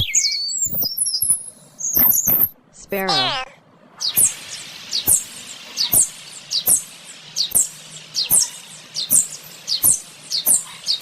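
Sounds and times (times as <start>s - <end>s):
sparrow chirping: 0.0s - 3.4s, 4.0s - 11.0s.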